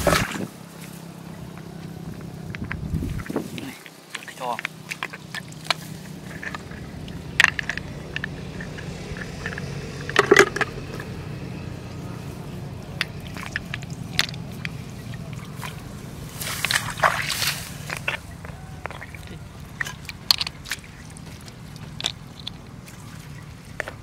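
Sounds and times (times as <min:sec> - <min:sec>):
hands squelching in mud: 0:00.0 - 0:24.0
low hum: 0:04.6 - 0:24.0.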